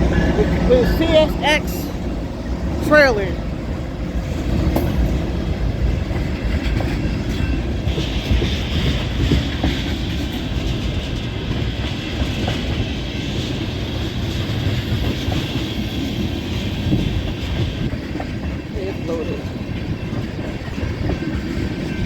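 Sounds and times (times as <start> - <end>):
freight train rolling past: 0.0 - 22.0
wheels clacking over rail joints: 0.0 - 22.0.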